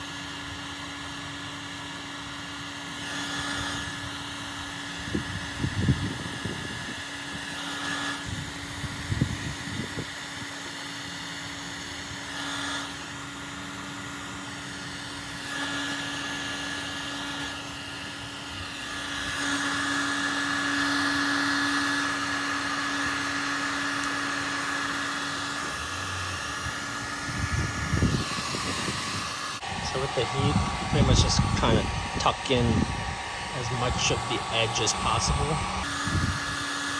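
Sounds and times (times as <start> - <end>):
heat gun fan whirring: 0.0 - 36.9.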